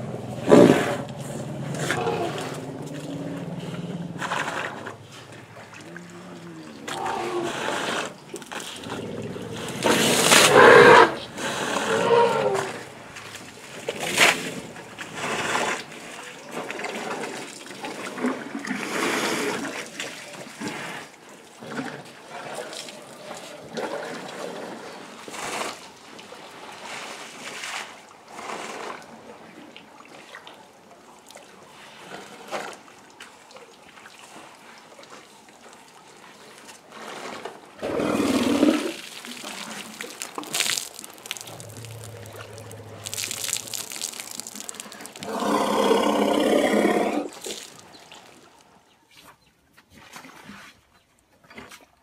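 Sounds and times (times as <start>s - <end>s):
water splashing and trickling: 1.4s - 52.0s.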